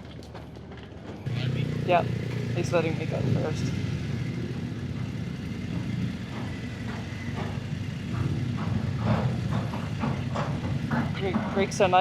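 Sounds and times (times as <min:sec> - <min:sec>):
motorcycle engine rumbling: 0:01.2 - 0:12.0.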